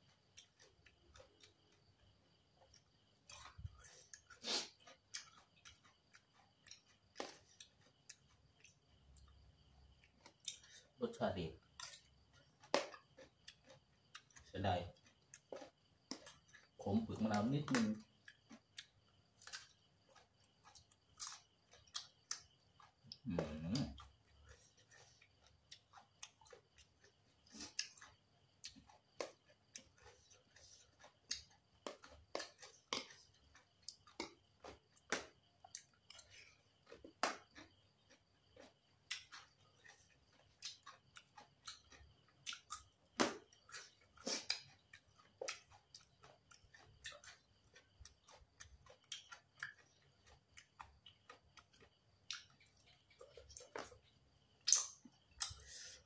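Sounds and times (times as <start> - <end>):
wet chewing and mouth smacks: 0.0 - 11.0, 11.6 - 16.8, 17.7 - 56.0.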